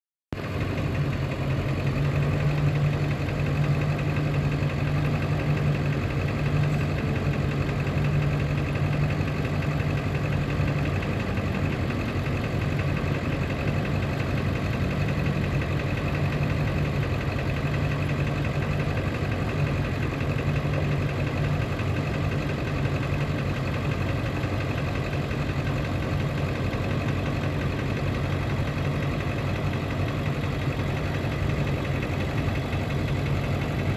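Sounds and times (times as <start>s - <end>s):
truck engine idling: 0.3s - 33.9s.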